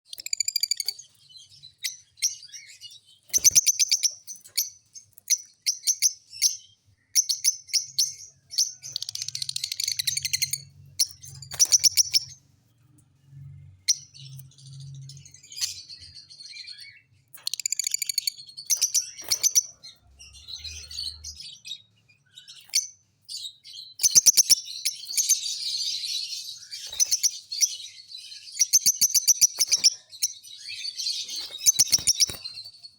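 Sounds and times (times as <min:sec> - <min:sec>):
lovebirds chirping and trilling: 0:00.1 - 0:32.9.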